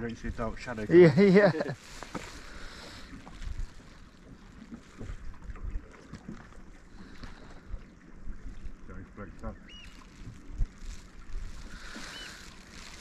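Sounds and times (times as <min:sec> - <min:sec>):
water lapping against shore: 0:00.0 - 0:13.0.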